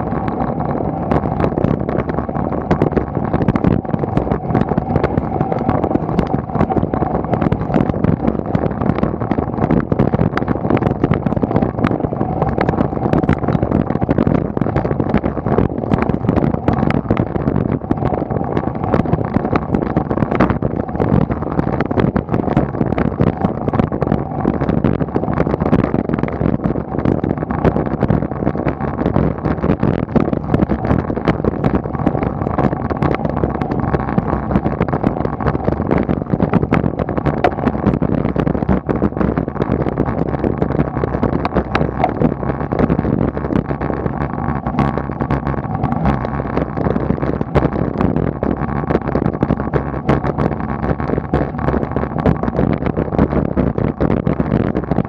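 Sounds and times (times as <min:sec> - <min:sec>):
road rumble: 0:00.0 - 0:55.0
wind buffeting microphone: 0:00.0 - 0:55.0.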